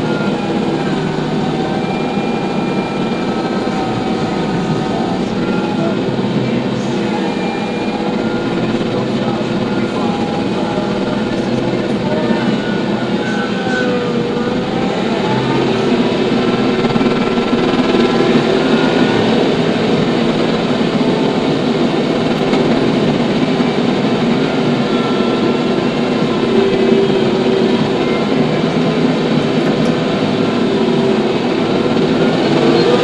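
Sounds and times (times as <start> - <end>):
faint wavering whines: 0.0 - 33.0
tractor diesel engine drone: 0.0 - 33.0.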